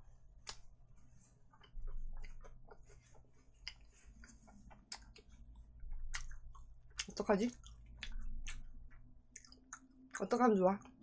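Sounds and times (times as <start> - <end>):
crunching and chewing: 0.4 - 10.9.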